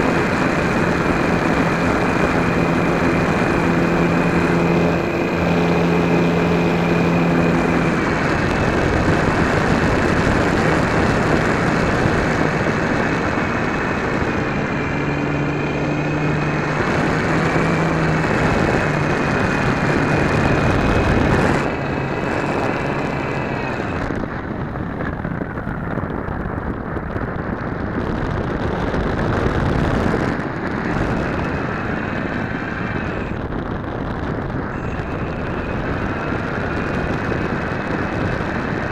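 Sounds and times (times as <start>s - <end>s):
model airplane motor and propeller: 0.0s - 38.9s
wind rush over microphone: 0.0s - 38.9s.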